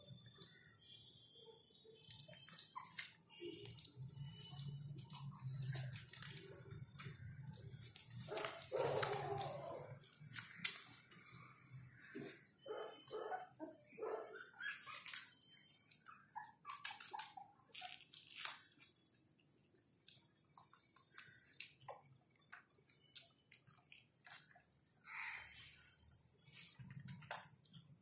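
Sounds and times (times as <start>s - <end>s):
puppies squeaking and whimpering: 0.0s - 28.0s.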